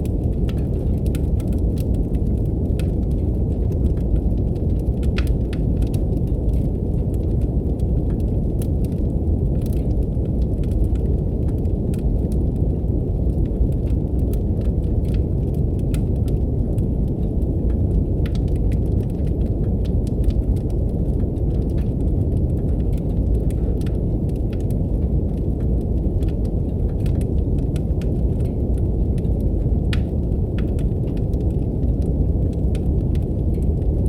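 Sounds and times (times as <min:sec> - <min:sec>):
deep brown noise: 0:00.0 - 0:34.0
wood fire crackling: 0:00.0 - 0:34.0.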